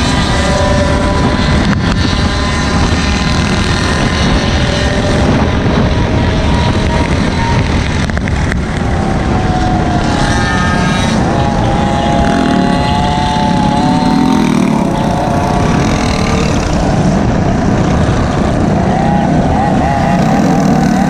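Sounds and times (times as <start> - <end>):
loud steady rumble: 0.0 - 21.0
small engines running: 0.0 - 21.0.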